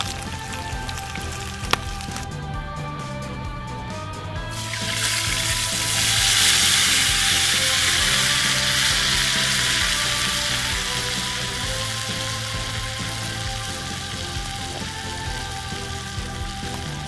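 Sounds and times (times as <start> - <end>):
beans sizzling in a frying pan: 0.0 - 2.2, 4.5 - 17.0.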